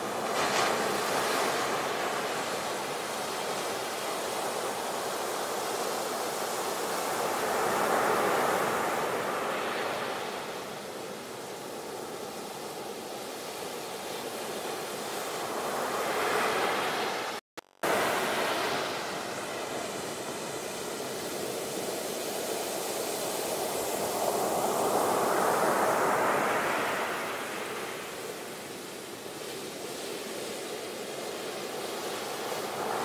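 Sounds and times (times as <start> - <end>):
sea waves surging and washing: 0.0 - 33.0.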